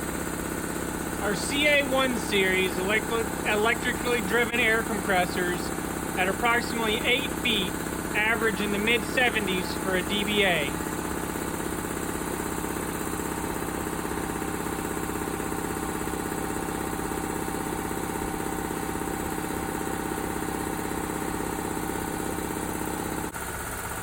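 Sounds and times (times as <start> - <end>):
air compressor pulsing hum: 0.0 - 24.0.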